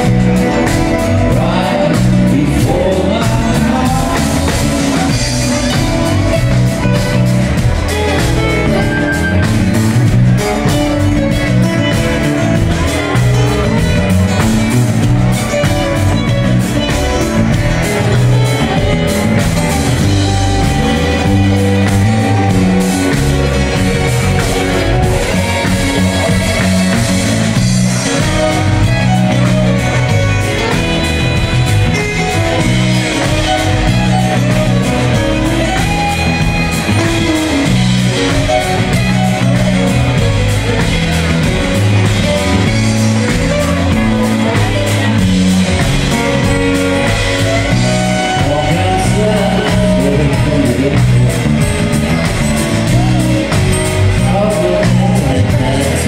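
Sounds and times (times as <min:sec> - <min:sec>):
drum kit: 0:00.0 - 0:56.0
plucked strings: 0:00.0 - 0:56.0
walking bass line: 0:00.0 - 0:56.0.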